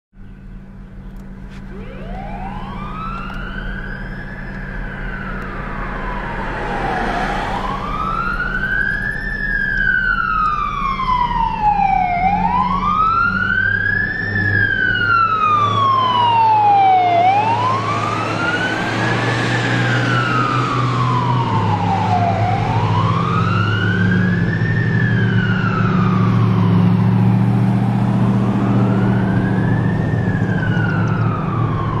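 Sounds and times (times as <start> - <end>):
low engine rumble: 0.2 - 32.0
siren wailing: 1.6 - 32.0.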